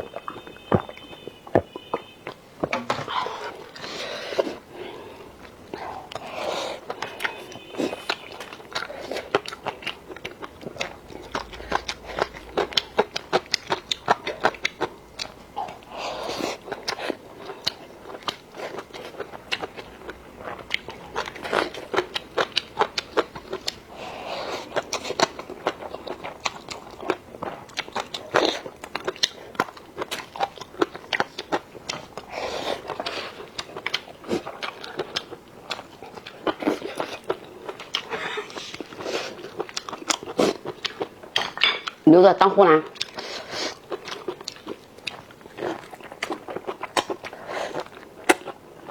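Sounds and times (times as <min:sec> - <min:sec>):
person chewing and crunching food: 0:00.0 - 0:42.1, 0:42.8 - 0:48.9.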